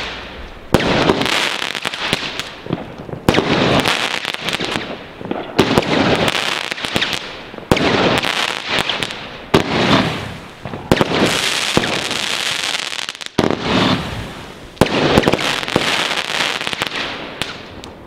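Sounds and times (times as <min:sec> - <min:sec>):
firework bangs: 0:00.0 - 0:17.8
crackling hiss of fireworks: 0:00.0 - 0:18.0.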